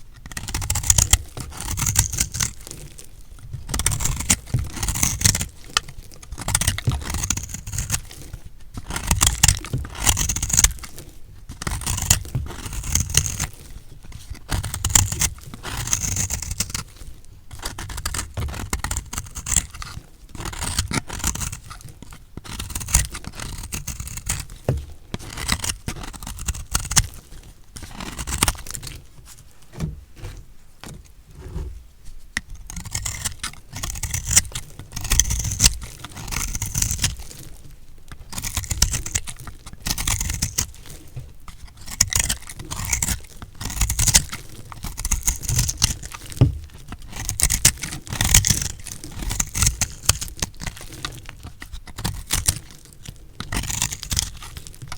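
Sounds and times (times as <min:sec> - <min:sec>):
blade cutting soap: 0:00.2 - 0:54.9.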